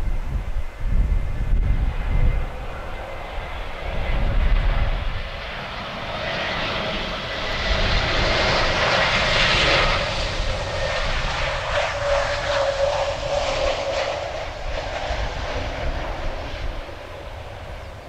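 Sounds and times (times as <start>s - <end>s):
jet engines whining and rushing: 0.0s - 18.0s.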